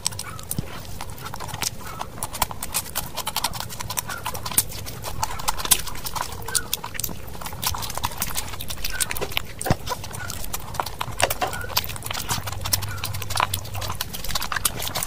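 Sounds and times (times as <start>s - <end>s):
lip smacks and mouth clicks: 0.0s - 15.0s
wet chewing: 0.0s - 15.0s.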